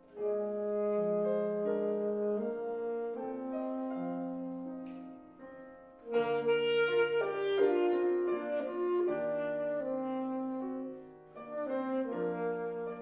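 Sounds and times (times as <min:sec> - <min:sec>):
piano accompaniment: 0:00.0 - 0:13.0
saxophone melody: 0:00.0 - 0:13.0.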